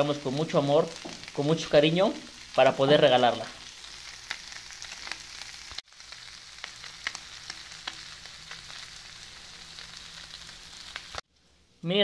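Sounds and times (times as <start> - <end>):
meat sizzling on a griddle: 0.0 - 11.6.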